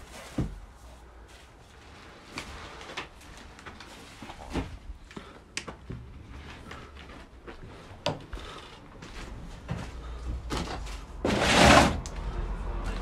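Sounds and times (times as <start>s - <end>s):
faint shuffling footsteps: 0.0s - 11.2s, 12.2s - 13.0s.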